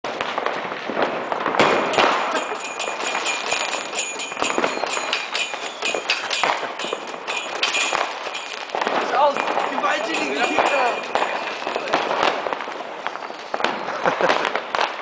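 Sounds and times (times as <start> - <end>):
firework crackling: 0.0 - 15.0.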